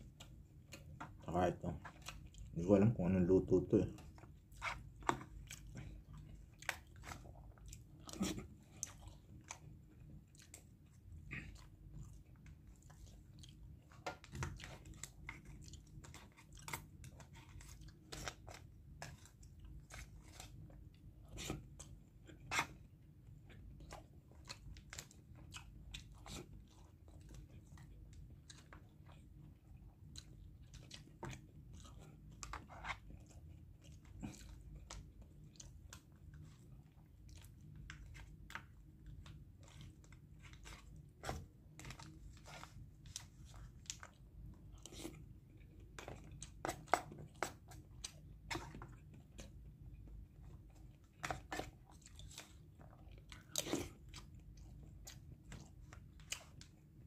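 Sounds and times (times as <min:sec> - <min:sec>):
man chewing: 0:00.0 - 0:02.6, 0:04.0 - 0:57.0
low room hum: 0:00.0 - 0:57.0.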